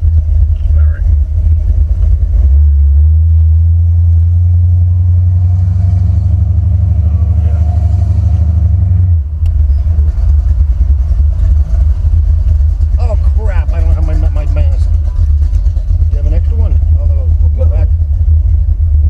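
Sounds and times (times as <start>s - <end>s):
car engine idling rumble: 0.0s - 19.0s.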